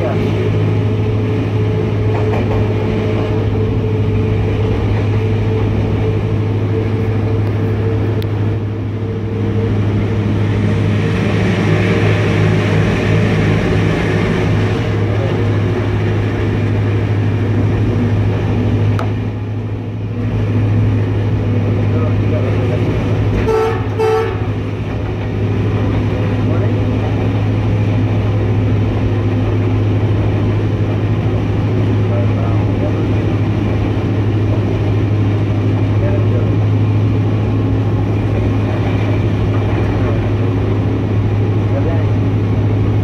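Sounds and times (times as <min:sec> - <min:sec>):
locomotive engine hum: 0:00.0 - 0:43.0
wheel and rail rumble: 0:00.0 - 0:43.0.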